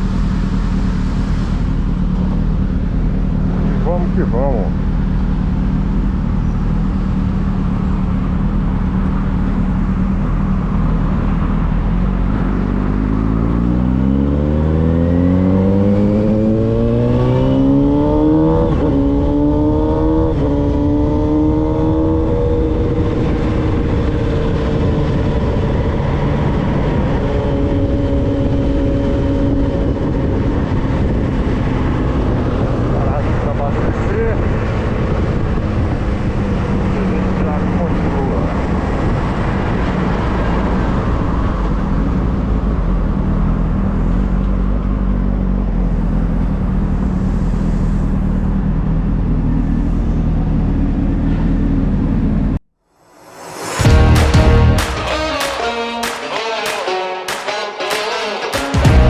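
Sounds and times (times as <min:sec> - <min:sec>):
motorcycle engine accelerating: 0:00.0 - 0:55.0, 0:57.9 - 0:59.0.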